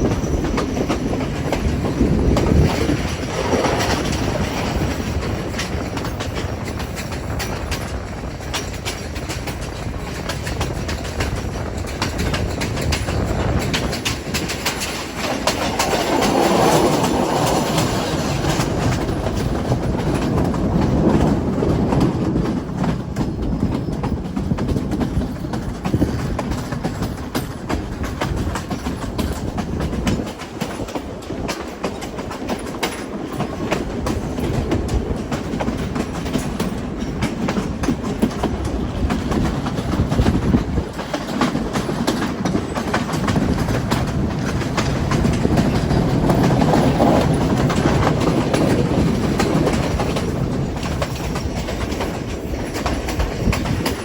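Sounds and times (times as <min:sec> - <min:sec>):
train rumbling along track: 0:00.0 - 0:54.0
wheels clicking over rail joints: 0:00.0 - 0:54.0.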